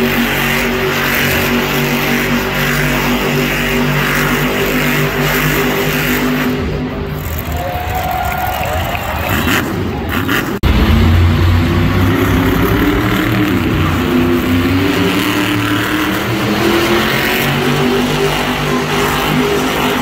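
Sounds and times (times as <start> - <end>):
truck engine revving high: 0.0 - 20.0.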